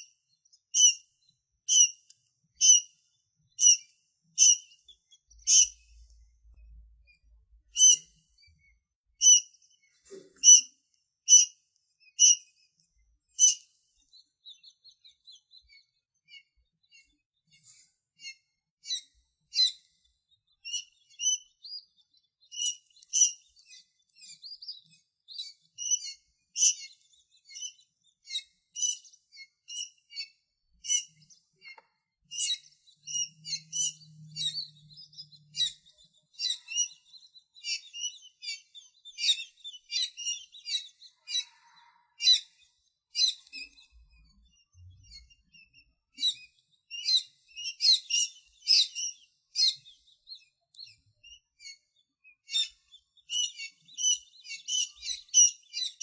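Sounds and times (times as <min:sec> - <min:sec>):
tiny birds chirping: 0:00.0 - 0:56.0.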